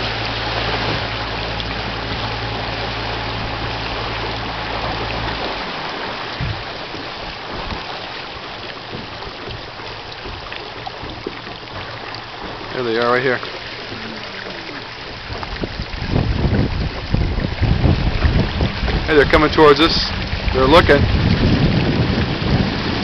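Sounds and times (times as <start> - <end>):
boat engine humming: 0.0 - 23.0
choppy water splashing on hull: 0.0 - 23.0.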